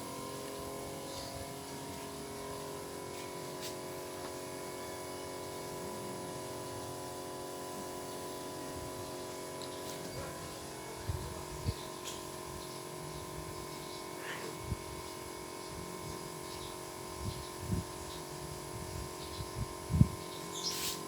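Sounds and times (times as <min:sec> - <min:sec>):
steady machine hum: 0:00.0 - 0:20.6.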